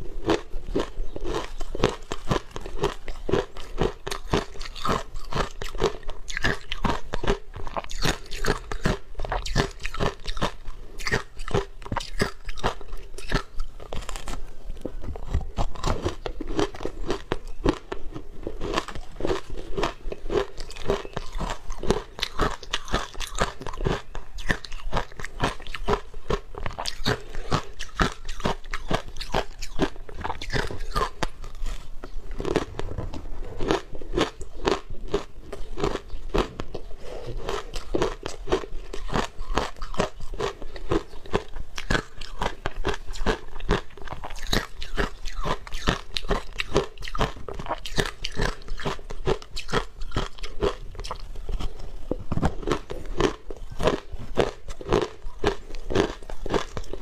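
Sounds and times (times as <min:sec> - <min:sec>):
shaved ice crunching in mouth: 0:00.0 - 0:57.0.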